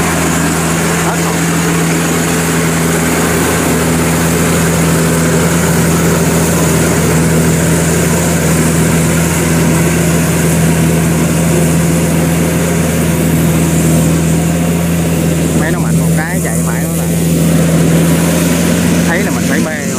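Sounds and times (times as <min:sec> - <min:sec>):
combine harvester running: 0:00.0 - 0:19.9.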